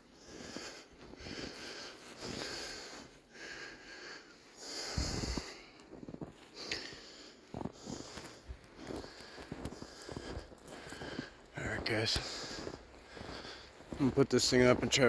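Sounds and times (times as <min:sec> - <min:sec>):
person breathing heavily: 0:00.0 - 0:14.0.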